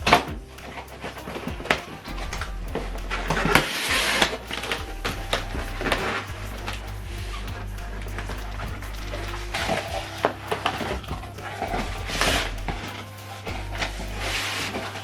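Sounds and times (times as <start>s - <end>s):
background music with low bass: 0.0s - 15.0s.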